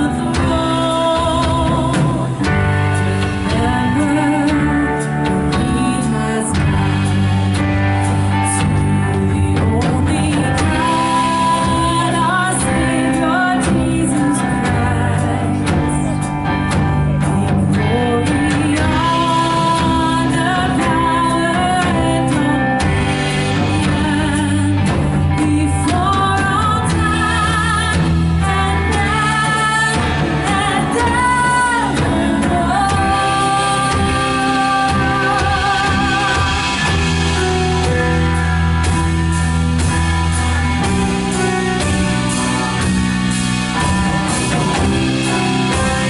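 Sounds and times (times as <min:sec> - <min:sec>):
person singing: 0:00.0 - 0:43.0
drums: 0:00.0 - 0:46.0
worship band playing: 0:00.0 - 0:46.0.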